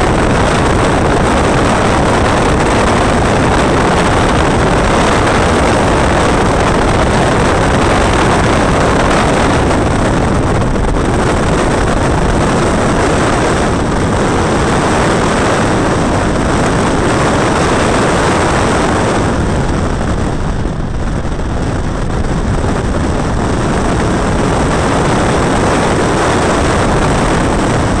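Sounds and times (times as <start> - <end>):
car engine running hard: 0.0 - 28.0
wind noise on microphone: 0.0 - 28.0.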